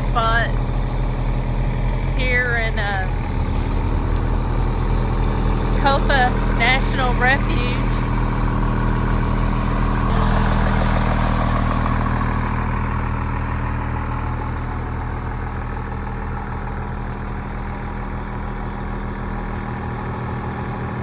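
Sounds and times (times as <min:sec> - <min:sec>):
diesel engine low drone: 0:00.0 - 0:21.0.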